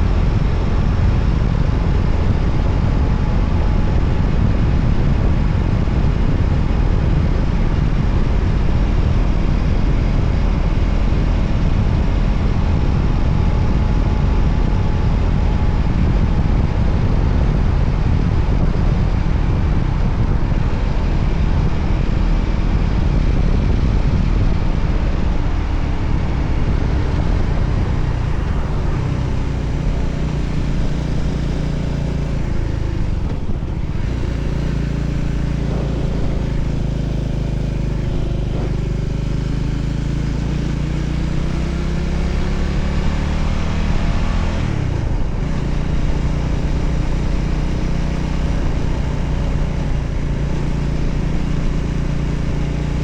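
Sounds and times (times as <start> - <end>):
motorcycle engine droning: 0.0 - 53.0
wind and road noise: 0.0 - 53.0.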